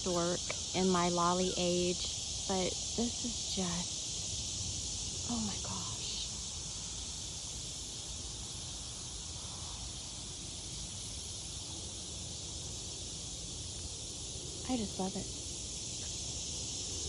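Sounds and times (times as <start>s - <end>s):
high-pitched insect chorus: 0.0s - 17.0s
low rumble of wind: 0.0s - 17.0s.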